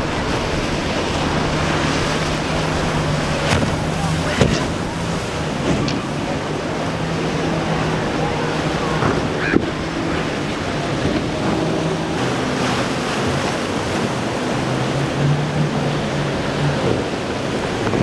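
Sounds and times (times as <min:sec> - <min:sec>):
boat engines humming: 0:00.0 - 0:18.0
waves rushing: 0:00.0 - 0:18.0.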